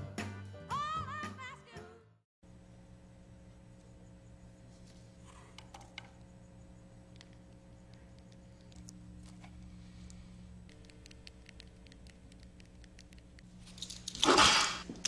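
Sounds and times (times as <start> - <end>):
low steady hum: 2.4 - 15.0.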